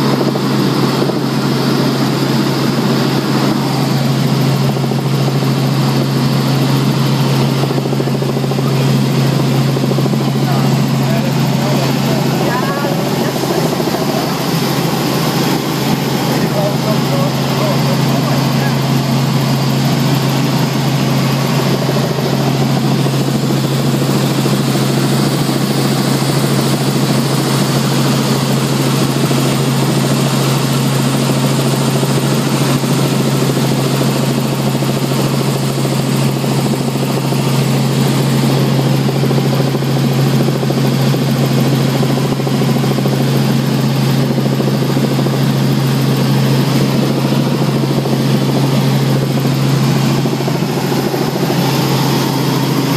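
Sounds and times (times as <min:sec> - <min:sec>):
helicopter engine and rotors drone: 0:00.0 - 0:52.9.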